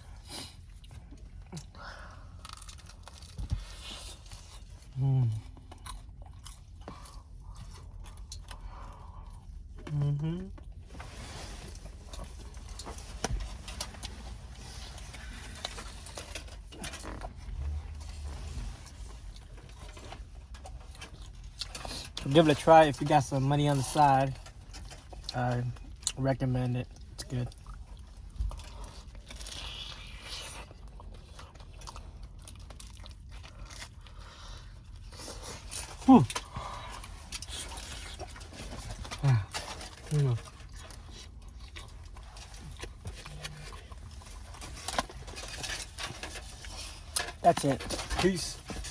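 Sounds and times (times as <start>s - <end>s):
person chewing food: 0.0s - 22.2s, 26.8s - 48.9s
low steady rumble: 0.0s - 48.9s.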